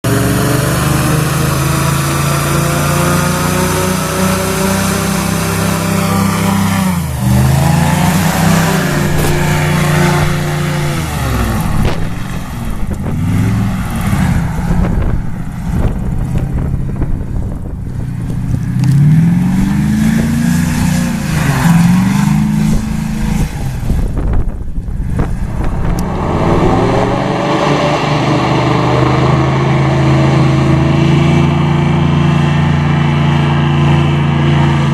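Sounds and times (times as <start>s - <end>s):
airboat engine and propeller: 0.0s - 34.9s.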